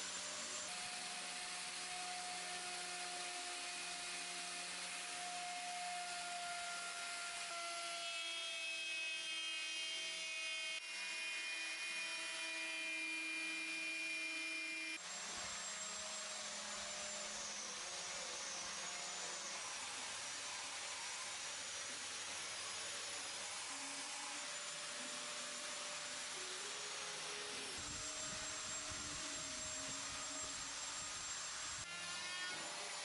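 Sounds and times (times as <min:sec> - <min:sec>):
power tool motor whine: 0:00.0 - 0:33.0.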